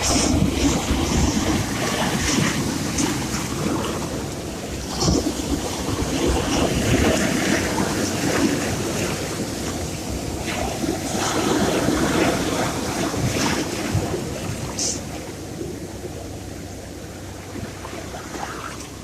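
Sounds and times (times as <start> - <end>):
sea waves washing on shore: 0.0 - 19.0.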